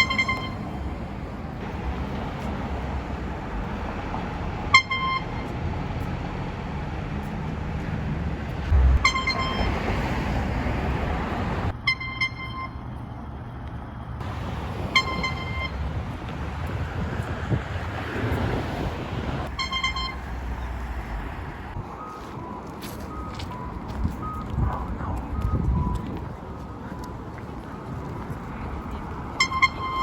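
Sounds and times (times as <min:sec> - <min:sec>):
street traffic noise: 0:00.0 - 0:30.0.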